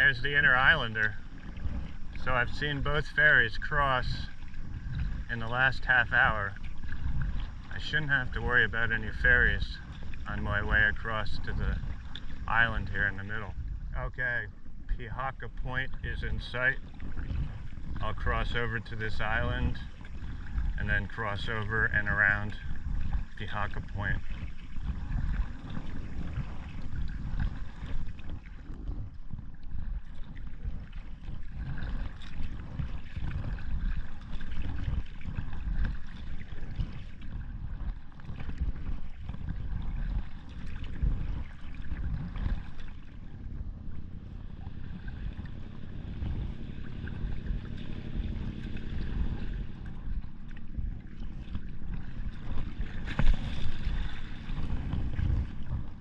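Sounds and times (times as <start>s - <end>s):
paddle splashing water: 0.0s - 56.0s
wind on microphone: 0.0s - 56.0s.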